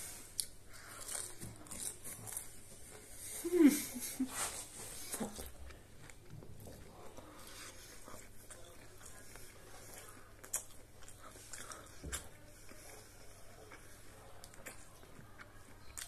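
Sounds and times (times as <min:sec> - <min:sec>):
chewing and mouth sounds: 0:00.1 - 0:03.6, 0:04.3 - 0:16.0.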